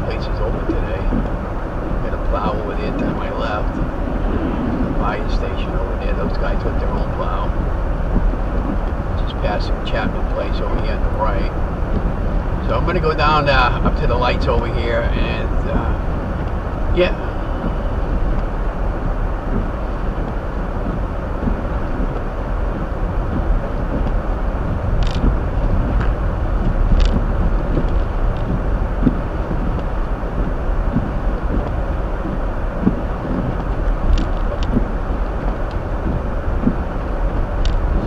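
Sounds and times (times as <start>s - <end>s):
road and tyre noise: 0.0s - 38.0s.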